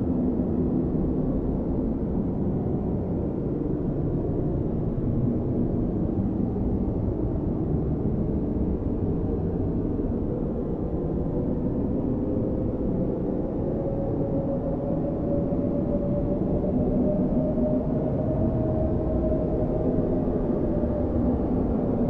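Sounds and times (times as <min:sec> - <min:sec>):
strong blizzard wind blowing: 0:00.0 - 0:22.0.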